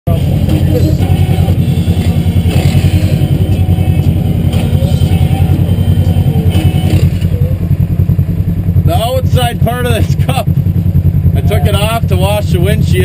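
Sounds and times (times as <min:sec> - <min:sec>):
engine idling: 0:00.1 - 0:13.0.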